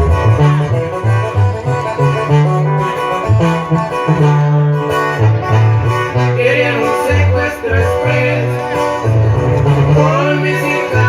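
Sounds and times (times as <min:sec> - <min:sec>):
bass line: 0:00.0 - 0:11.0
live band playing: 0:00.0 - 0:11.0
plucked strings: 0:00.0 - 0:11.0.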